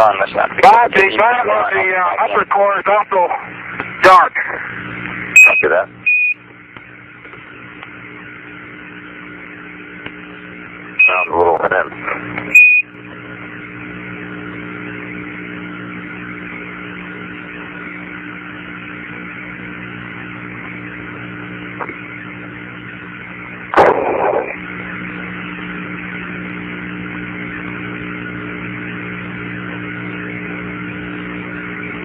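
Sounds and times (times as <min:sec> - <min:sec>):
loud crackle of static: 0:00.0 - 0:32.0
low multi-tone hum: 0:00.0 - 0:32.0
radio static hiss: 0:00.0 - 0:32.0.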